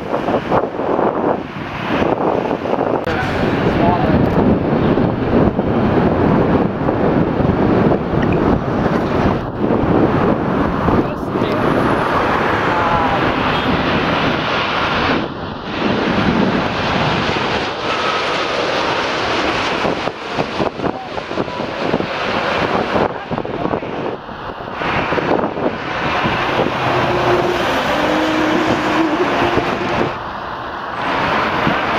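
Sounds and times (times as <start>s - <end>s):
jet engines rumbling: 0.0s - 31.9s
passing road traffic: 0.0s - 31.9s
wind on microphone: 0.0s - 31.9s.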